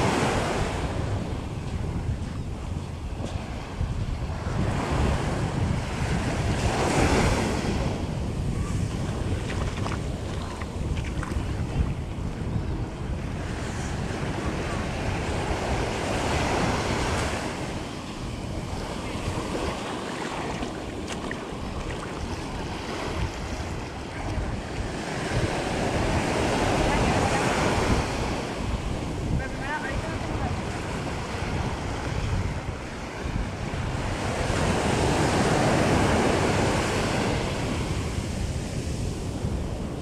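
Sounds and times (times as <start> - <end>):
small waves breaking on shore: 0.0 - 40.0
wind rumbling on microphone: 0.0 - 40.0.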